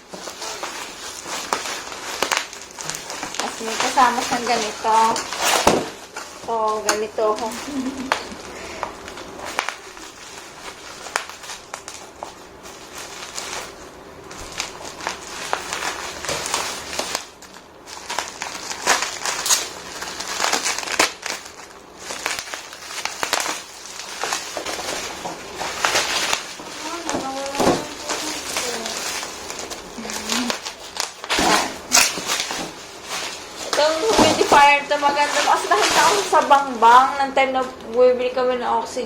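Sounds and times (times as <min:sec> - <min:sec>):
packaging crinkling: 0:00.0 - 0:37.9.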